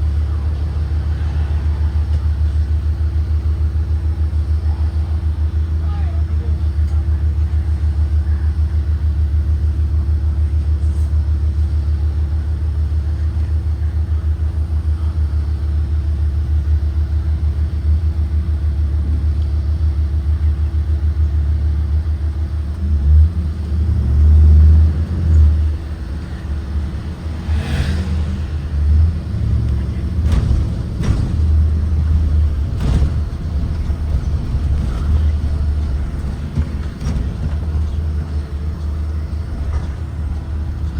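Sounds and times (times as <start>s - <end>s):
bus engine rumble: 0.0s - 40.9s.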